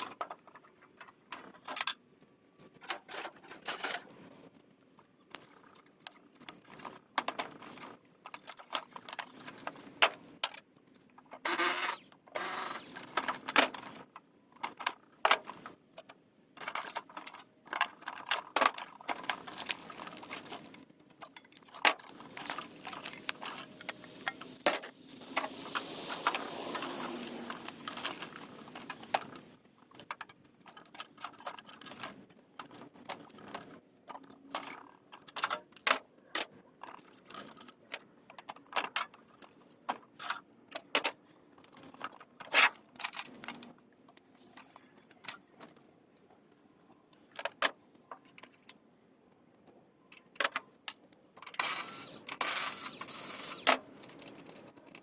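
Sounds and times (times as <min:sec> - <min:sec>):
rustling and clattering: 0:00.0 - 0:11.8, 0:12.8 - 0:46.0.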